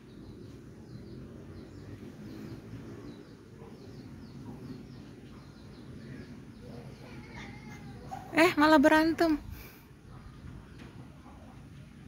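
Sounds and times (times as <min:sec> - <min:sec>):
birds chirping: 0:00.0 - 0:12.0
low outdoor rumble: 0:00.0 - 0:12.0.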